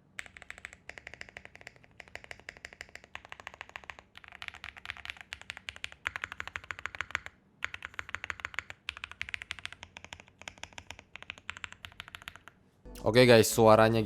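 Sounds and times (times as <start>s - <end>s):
typing on mechanical keyboard: 0.2s - 12.6s.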